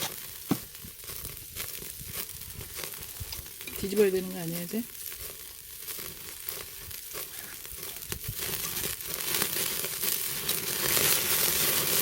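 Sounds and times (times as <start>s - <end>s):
fat crackling on hot coals: 0.0s - 12.0s
meat sizzling on a grill: 0.0s - 12.0s.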